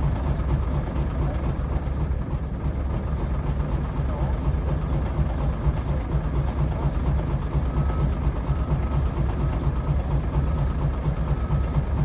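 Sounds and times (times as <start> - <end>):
excavator diesel engine idling: 0.0 - 12.0.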